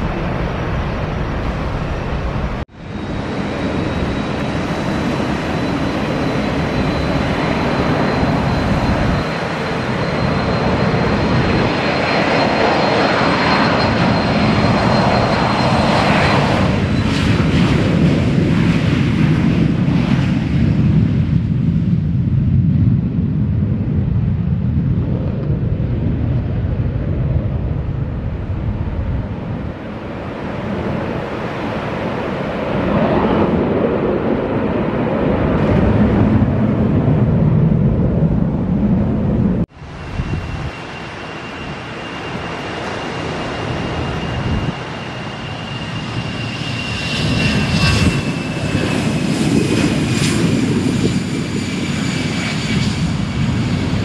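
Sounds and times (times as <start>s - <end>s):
high engine whine: 0.0s - 23.2s, 23.8s - 54.0s
jet engines rumbling: 0.0s - 54.0s.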